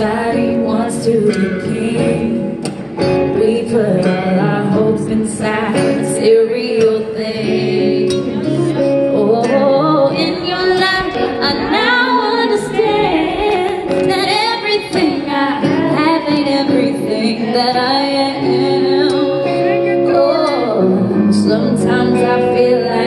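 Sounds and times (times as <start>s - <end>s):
band backing: 0.0s - 23.0s
electric guitar solo: 0.0s - 23.0s.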